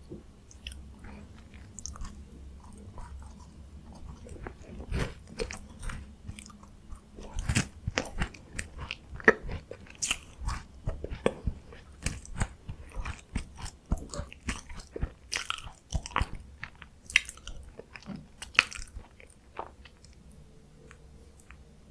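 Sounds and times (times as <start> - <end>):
chewing crunchy biscuits: 0.5 - 21.8.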